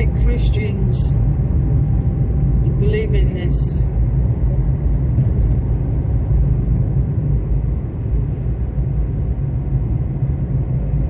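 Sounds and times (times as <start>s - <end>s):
low rumble in car cabin: 0.0s - 11.0s.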